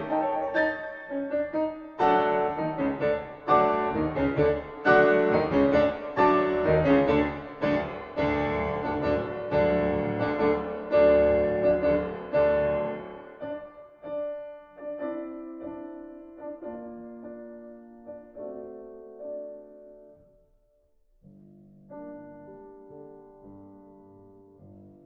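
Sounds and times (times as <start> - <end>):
piano music: 0.0 - 20.4, 21.9 - 25.0.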